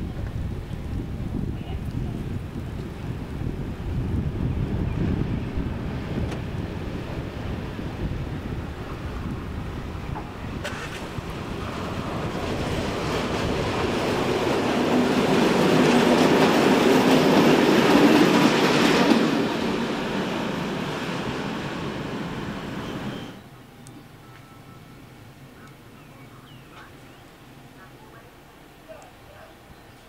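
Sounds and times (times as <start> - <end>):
diesel locomotive engines: 0.0 - 30.0.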